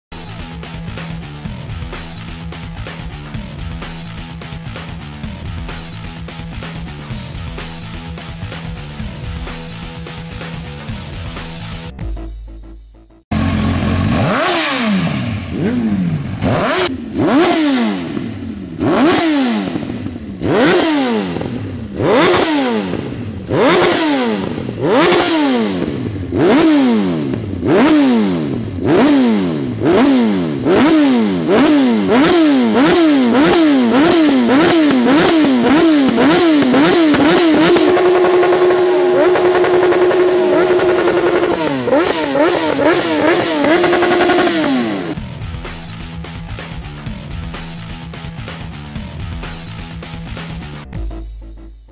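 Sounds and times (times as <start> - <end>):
motorcycle engine revving: 0.1 - 51.9.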